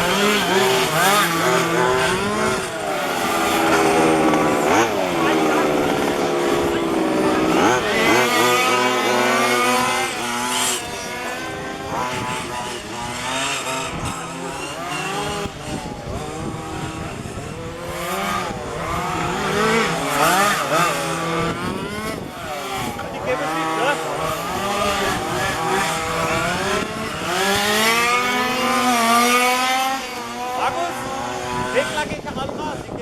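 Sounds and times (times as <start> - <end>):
small two-stroke engines racing: 0.0 - 33.0.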